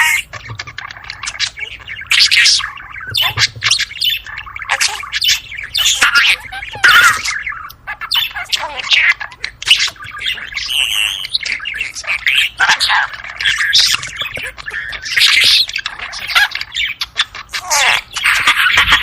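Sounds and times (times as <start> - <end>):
budgerigars chirping and twittering: 0.0 - 19.0.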